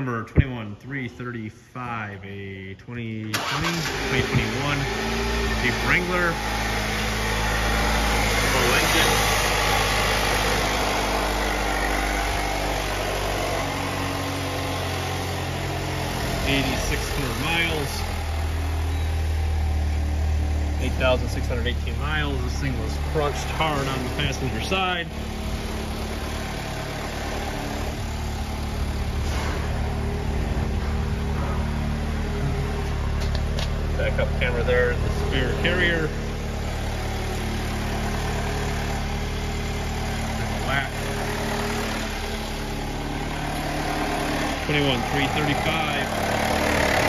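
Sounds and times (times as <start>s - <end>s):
car engine idling: 2.7s - 47.0s.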